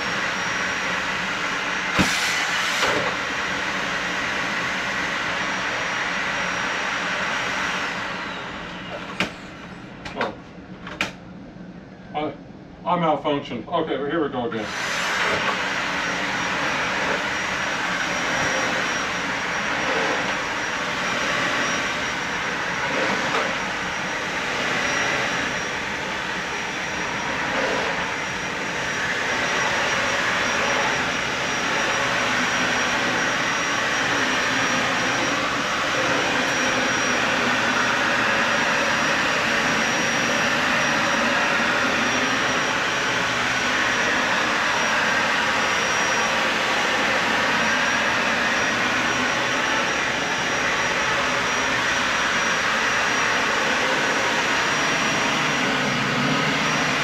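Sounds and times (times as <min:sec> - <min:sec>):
vacuum cleaner running on carpet: 0:00.0 - 0:10.4, 0:14.5 - 0:57.0.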